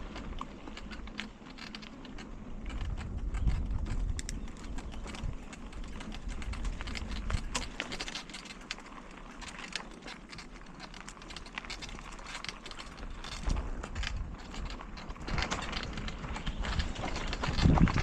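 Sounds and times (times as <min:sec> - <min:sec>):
bicycle rattling and clicking: 0:00.0 - 0:18.0.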